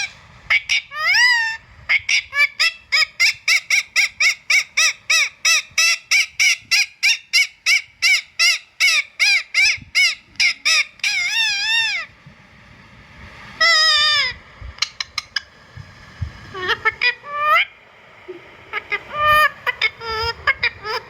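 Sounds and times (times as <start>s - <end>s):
parrot shrill calls: 0.0s - 12.1s, 13.6s - 15.4s, 16.5s - 17.8s, 18.7s - 21.0s.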